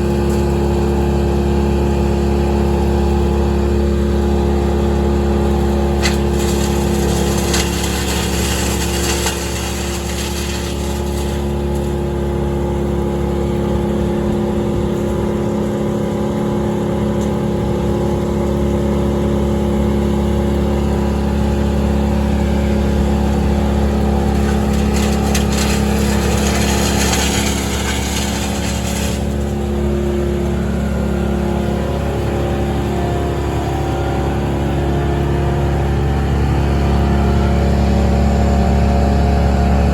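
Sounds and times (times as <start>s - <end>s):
large machine engine running: 0.0s - 39.9s.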